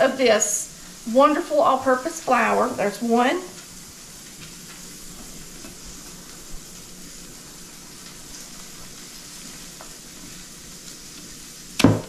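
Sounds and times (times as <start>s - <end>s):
sausage sizzling in a frying pan: 0.0s - 12.0s.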